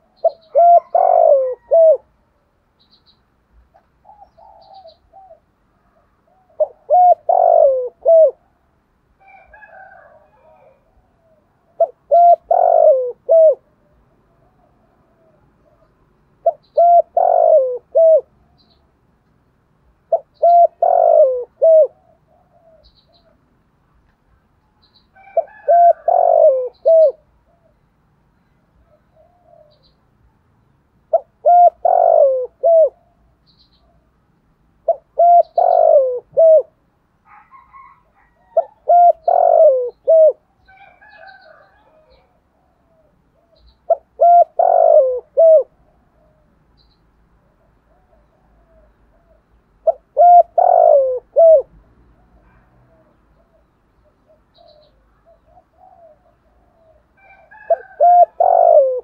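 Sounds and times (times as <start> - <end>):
dove cooing: 0.0 - 2.2, 3.7 - 8.6, 9.2 - 18.8, 20.1 - 23.4, 25.2 - 27.8, 28.8 - 30.0, 31.1 - 34.1, 34.8 - 46.6, 47.4 - 59.0.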